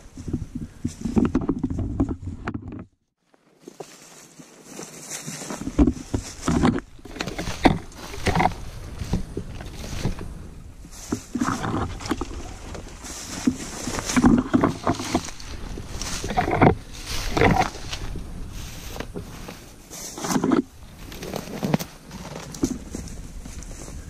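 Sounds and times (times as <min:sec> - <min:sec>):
branches scraping against clothing: 0:03.2 - 0:24.0
twigs crunching underfoot: 0:03.2 - 0:24.0.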